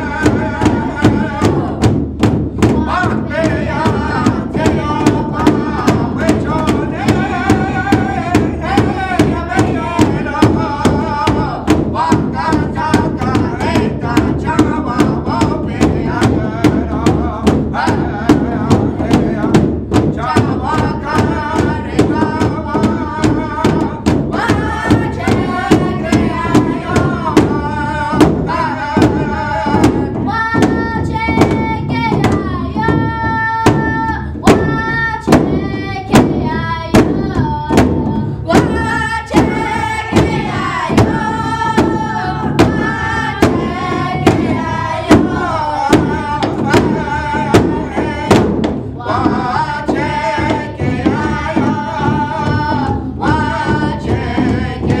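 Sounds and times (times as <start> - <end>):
children singing: 0.0 - 2.0, 2.6 - 55.0
large drum beating: 0.0 - 55.0.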